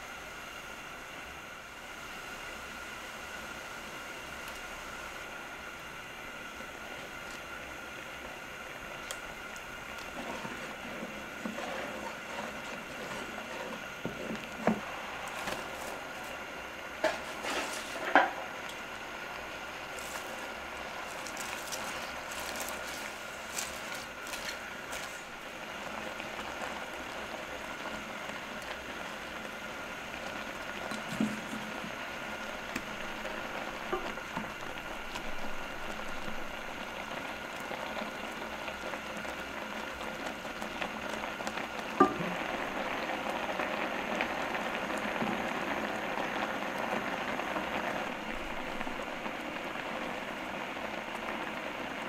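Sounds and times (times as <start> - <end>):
stew bubbling and hissing: 2.1 - 52.0.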